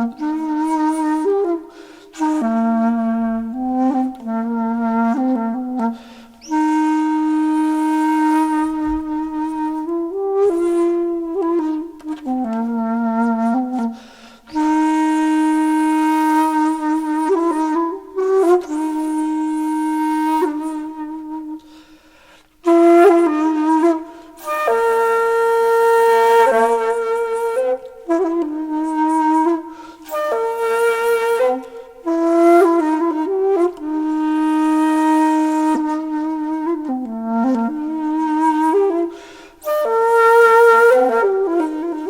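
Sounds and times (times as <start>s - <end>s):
slow flute-like melody: 0.0s - 42.0s.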